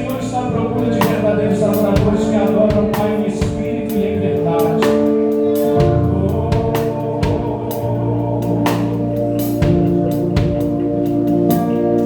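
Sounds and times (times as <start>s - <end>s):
electric bass: 0.0s - 12.0s
gospel band playing: 0.0s - 12.0s
keyboard chords: 0.0s - 12.0s.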